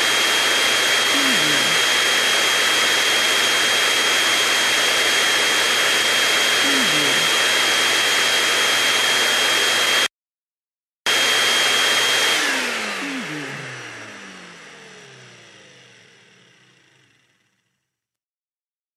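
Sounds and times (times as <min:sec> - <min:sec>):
vacuum cleaner whine: 0:00.0 - 0:10.1, 0:11.1 - 0:17.8
vacuum motor spinning down: 0:00.0 - 0:10.1, 0:11.1 - 0:18.0.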